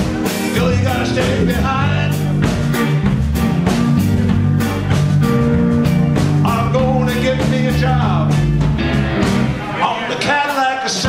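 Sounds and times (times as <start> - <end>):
blues band playing: 0.0 - 11.0.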